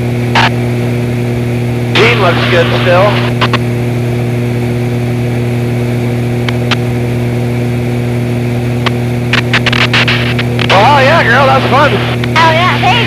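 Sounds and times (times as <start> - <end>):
propeller engine droning: 0.0 - 13.0.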